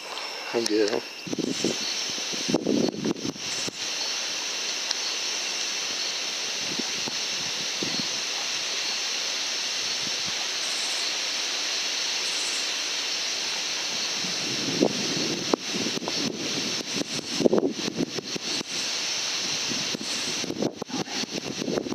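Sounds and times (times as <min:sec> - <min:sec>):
outdoor night ambience hiss: 0:00.0 - 0:21.9.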